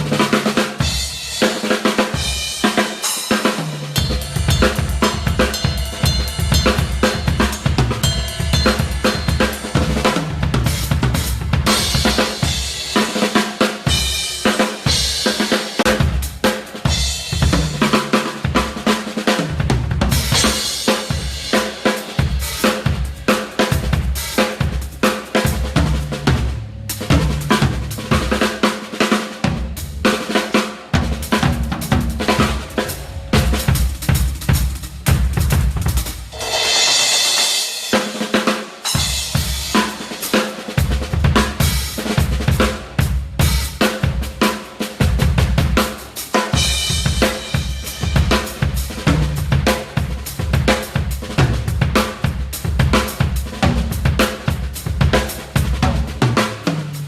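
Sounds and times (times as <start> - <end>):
cymbals: 0.0 - 57.0
rapid snare drum strokes: 0.0 - 57.0.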